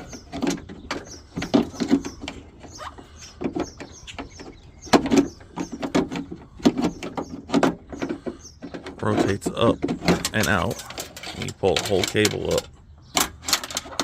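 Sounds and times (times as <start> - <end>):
metal and plastic parts knocking: 0.0 - 14.0.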